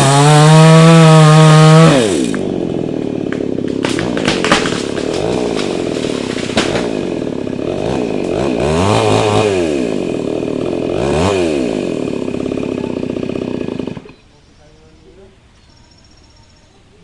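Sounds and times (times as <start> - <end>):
chainsaw revving: 0.0 - 14.2.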